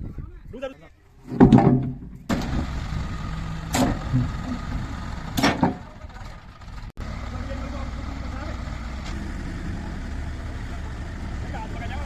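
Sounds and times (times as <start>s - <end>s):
diesel engine running: 2.3s - 12.0s.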